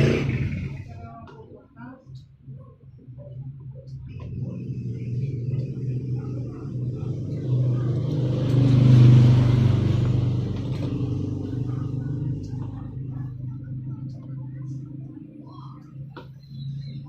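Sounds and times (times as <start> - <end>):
motor vehicle passing by: 0.0 - 0.9, 4.0 - 17.0
steady low hum: 0.0 - 17.0.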